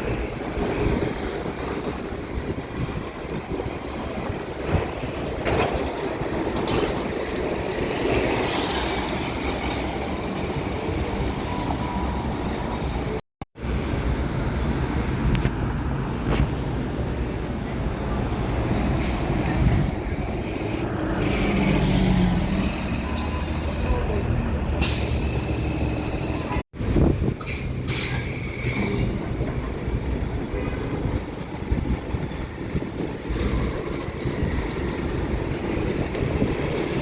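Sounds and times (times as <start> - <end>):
bus engine rumble: 0.0 - 37.0.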